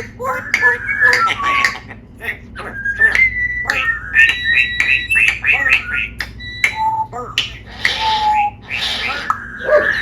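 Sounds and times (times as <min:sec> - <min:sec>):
parrot clicking and chirping: 0:00.0 - 0:10.0
parrot raspy calls: 0:00.0 - 0:10.0.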